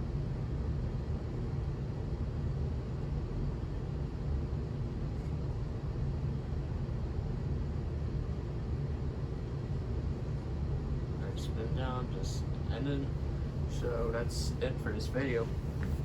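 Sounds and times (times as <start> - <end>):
ceiling fan spinning down: 0.0 - 16.0.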